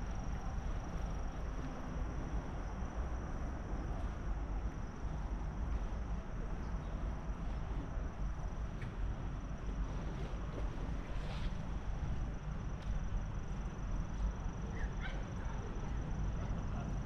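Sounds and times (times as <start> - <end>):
crickets trilling: 0.0 - 17.0
low steady rumble: 0.0 - 17.0.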